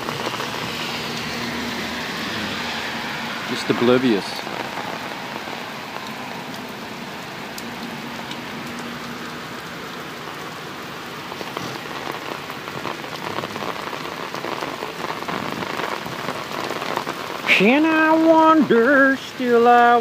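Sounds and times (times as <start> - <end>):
heavy rain on wet pavement: 0.0 - 20.0.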